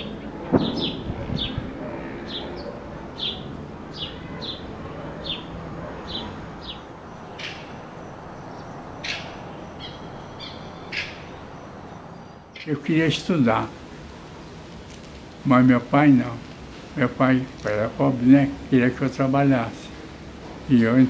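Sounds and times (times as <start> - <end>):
small birds chirping: 0.0 - 18.8
low steady hiss: 2.8 - 21.0.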